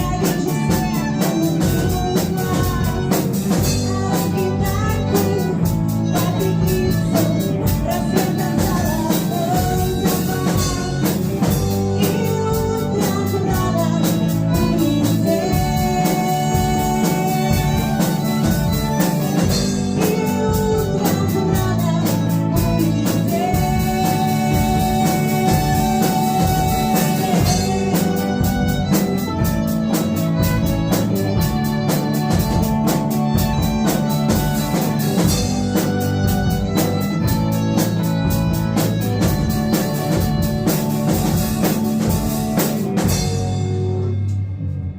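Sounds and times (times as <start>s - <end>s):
drum kit beat: 0.0s - 44.9s
rock band playing: 0.0s - 44.9s.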